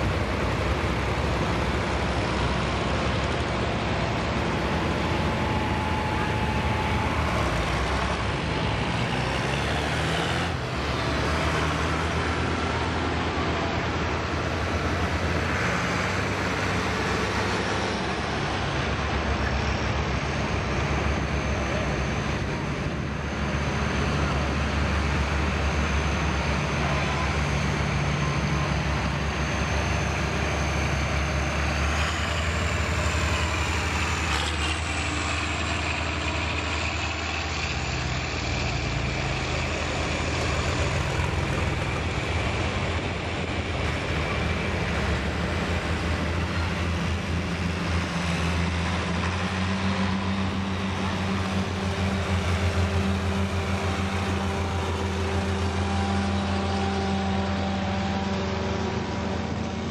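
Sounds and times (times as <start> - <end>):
tractor engines droning: 0.0 - 59.9.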